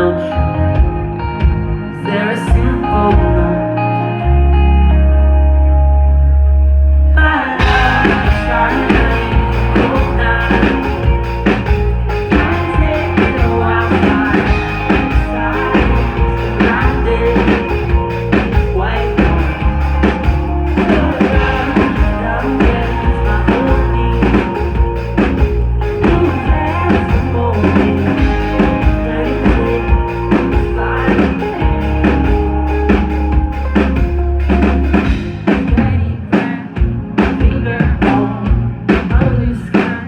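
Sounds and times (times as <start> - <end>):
bass guitar: 0.0 - 40.0
electric guitars: 0.0 - 40.0
drum kit: 7.6 - 40.0.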